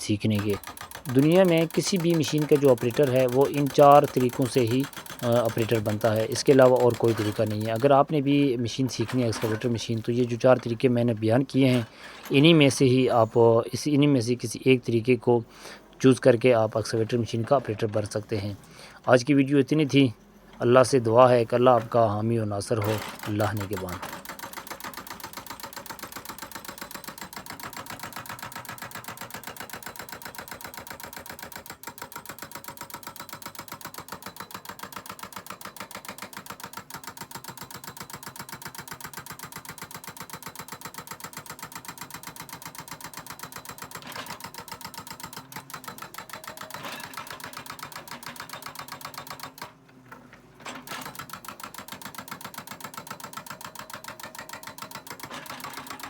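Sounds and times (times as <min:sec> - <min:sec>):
machine clattering: 0:00.0 - 0:13.4, 0:20.6 - 0:56.0.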